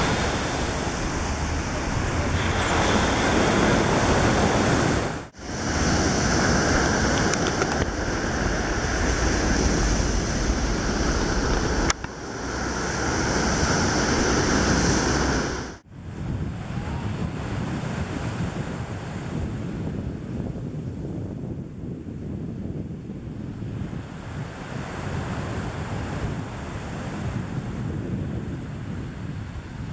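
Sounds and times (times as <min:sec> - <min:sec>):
waves breaking on beach: 0:00.0 - 0:20.4, 0:23.7 - 0:29.9
wind on microphone: 0:00.0 - 0:29.9.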